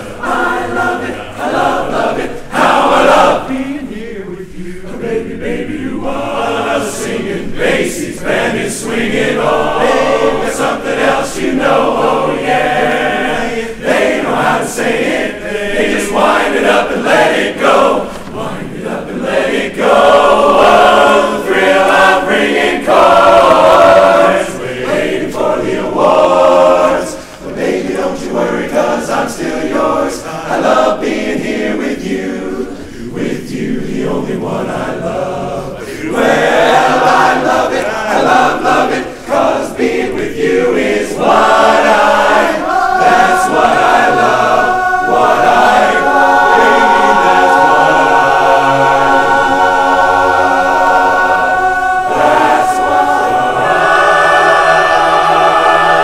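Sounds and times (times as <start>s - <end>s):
barbershop chorus singing a cappella: 0.0s - 56.0s.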